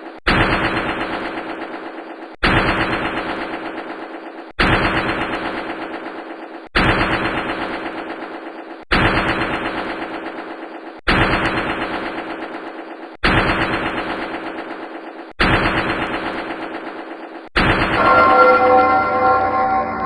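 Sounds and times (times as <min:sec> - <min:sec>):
loud start with rapid rattle: 0:00.0 - 0:19.4.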